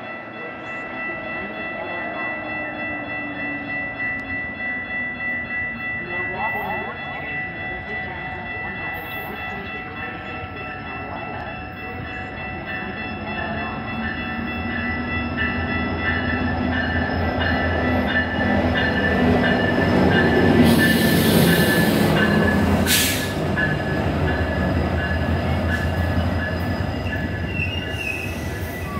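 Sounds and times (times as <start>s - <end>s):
diesel locomotive rumble: 0.0s - 28.9s
steady high ringing: 0.0s - 28.9s.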